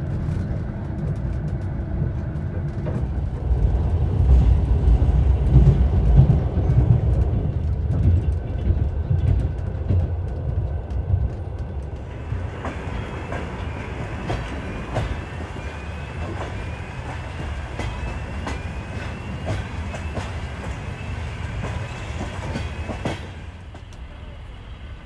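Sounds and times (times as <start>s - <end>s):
train low rumble: 0.0s - 25.0s
wheels clicking over rail joints: 0.1s - 24.1s.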